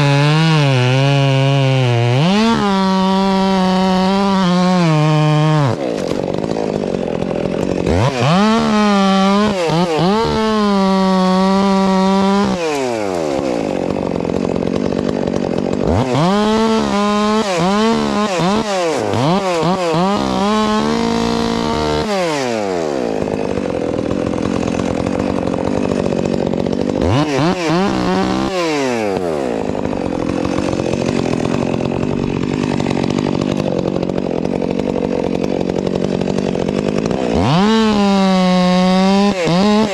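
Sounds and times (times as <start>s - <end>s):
chainsaw chain cutting wood: 0.0s - 39.9s
chainsaw engine revving: 0.0s - 39.9s.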